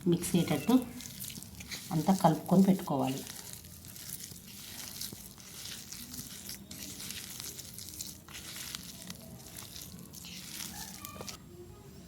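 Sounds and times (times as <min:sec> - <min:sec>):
mashed potato squishing in bowl: 0:00.1 - 0:11.5.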